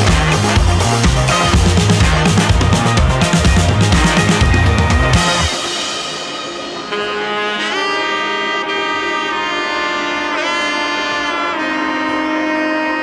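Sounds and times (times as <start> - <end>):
sliding held-note melody: 1.3 - 13.0.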